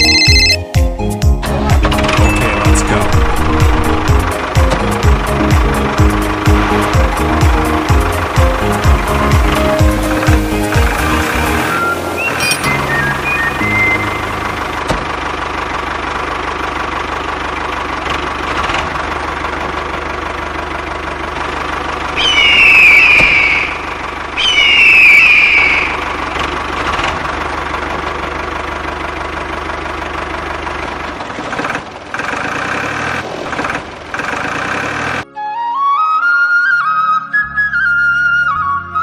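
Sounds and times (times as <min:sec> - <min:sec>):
tractor engine running: 0:00.0 - 0:35.2.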